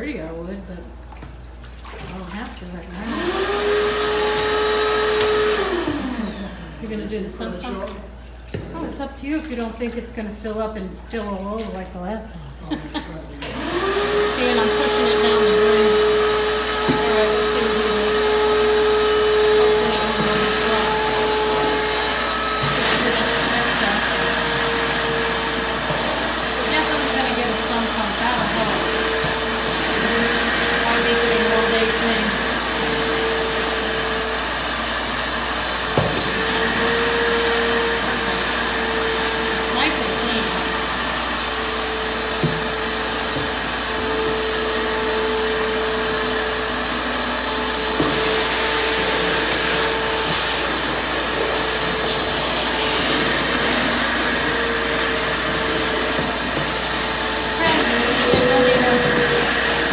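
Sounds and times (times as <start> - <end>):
shop vacuum whining: 3.0 - 8.9, 13.4 - 59.9.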